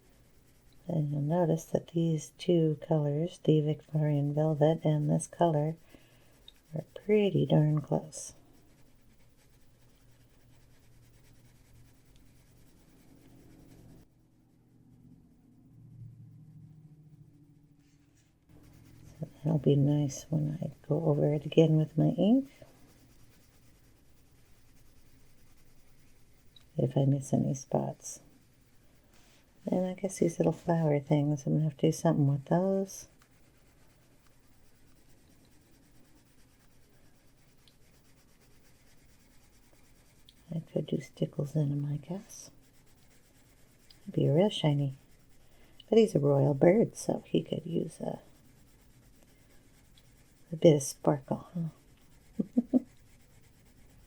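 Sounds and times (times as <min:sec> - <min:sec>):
pencil scratching on paper: 0:00.0 - 0:14.1, 0:17.9 - 0:54.0.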